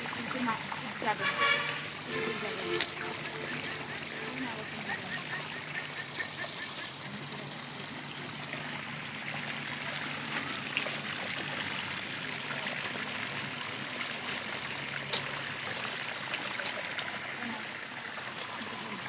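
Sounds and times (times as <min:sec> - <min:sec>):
water pouring into standing water: 0:00.0 - 0:19.0.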